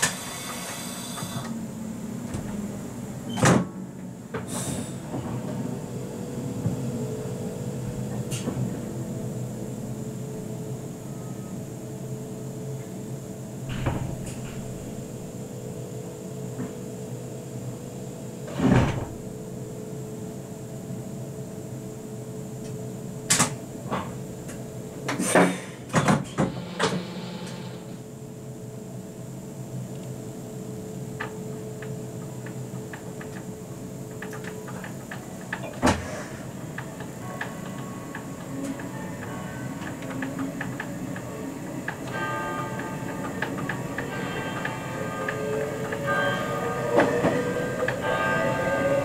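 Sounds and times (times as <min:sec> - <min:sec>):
train humming: 0:00.0 - 0:19.7, 0:26.2 - 0:49.0.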